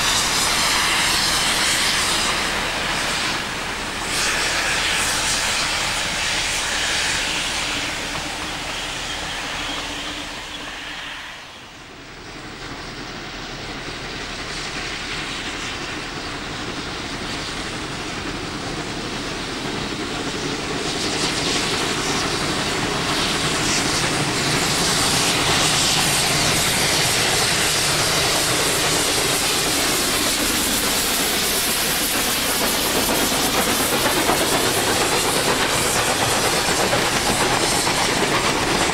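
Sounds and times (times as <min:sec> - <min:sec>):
steam locomotives hissing: 0:00.0 - 0:38.9
train carriages passing: 0:00.0 - 0:38.9.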